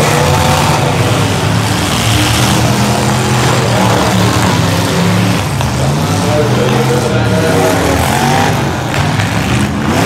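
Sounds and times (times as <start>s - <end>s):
car engines running: 0.0s - 10.0s.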